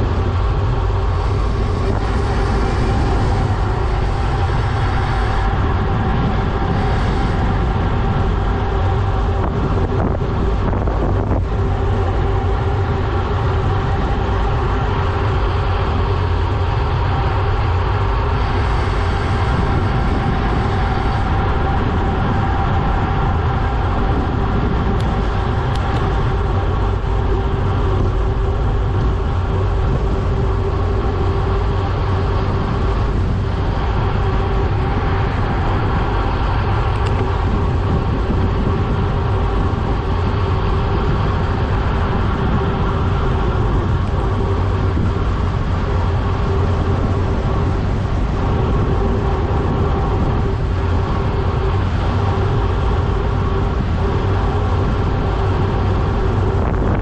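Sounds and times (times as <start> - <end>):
constant hum: 0.0 - 57.0
road noise: 0.0 - 57.0
wind rush on microphone: 0.0 - 57.0.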